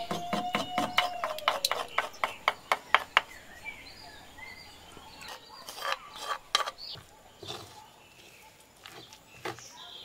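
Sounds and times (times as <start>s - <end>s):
wooden spoon scraping clay pot: 0.0s - 9.8s.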